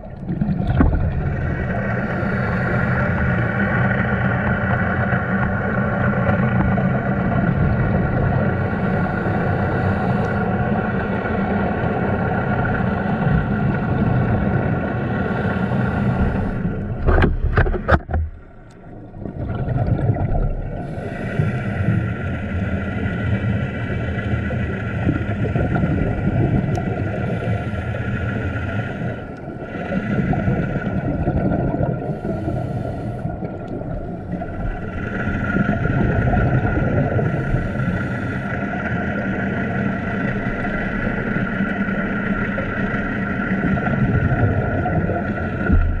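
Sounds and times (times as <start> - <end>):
underwater boat engine drone: 0.0 - 46.0.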